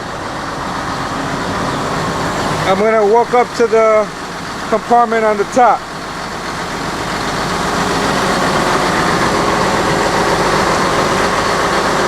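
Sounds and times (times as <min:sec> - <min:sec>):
diesel excavator engine running: 0:00.0 - 0:12.0.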